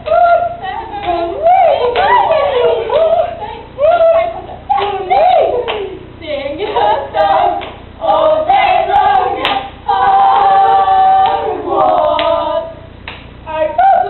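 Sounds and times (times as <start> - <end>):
girls singing a cappella: 0.0 - 14.0.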